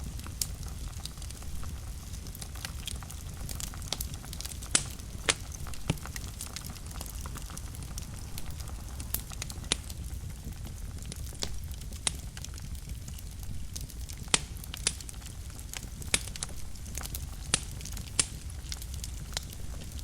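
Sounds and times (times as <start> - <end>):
fire crackles and pops: 0.0 - 20.0
fire rumbling in a fireplace: 0.0 - 20.0.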